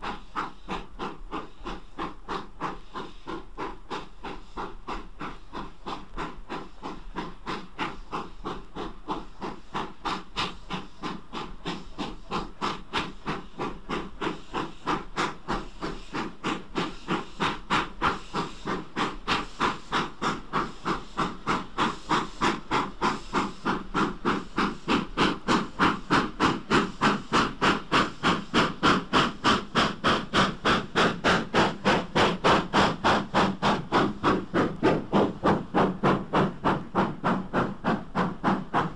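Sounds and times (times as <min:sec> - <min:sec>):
steam locomotive exhaust beating: 0:00.0 - 0:38.9.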